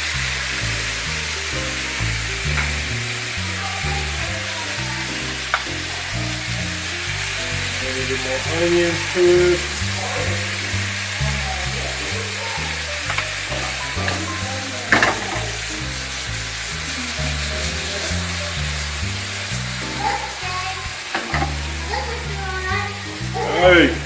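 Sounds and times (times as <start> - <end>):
background music: 0.0 - 24.0
stir-fry sizzling in a pan: 0.0 - 24.0
utensil clacking: 1.1 - 22.4.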